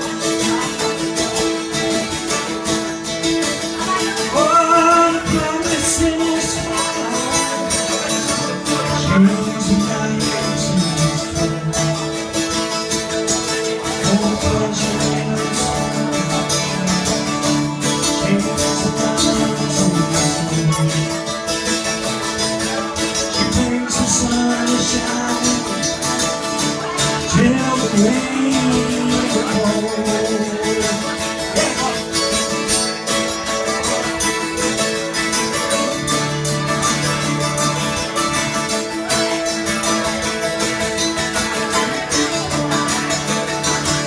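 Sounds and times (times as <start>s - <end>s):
banjo playing: 0.0s - 44.0s
strummed acoustic guitars: 0.0s - 44.0s.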